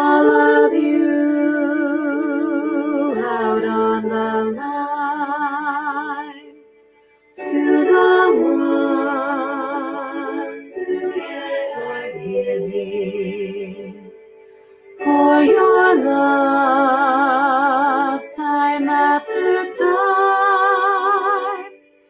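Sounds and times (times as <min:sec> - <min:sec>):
woman singing with vibrato: 0:00.0 - 0:06.5, 0:07.4 - 0:14.1, 0:15.0 - 0:21.8
sustained pitches: 0:00.0 - 0:06.8, 0:07.4 - 0:21.8.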